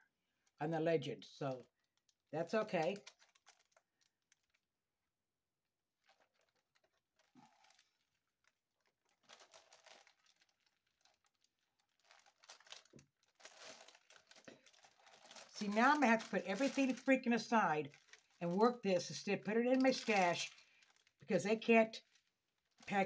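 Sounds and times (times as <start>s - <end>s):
plastic bags crinkling: 1.4s - 4.6s, 6.0s - 23.0s.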